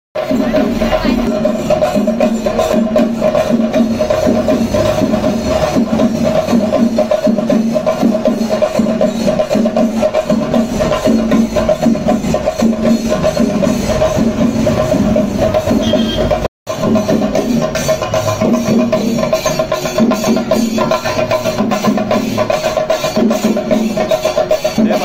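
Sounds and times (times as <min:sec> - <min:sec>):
percussion with clicking strikes: 0:00.2 - 0:25.0.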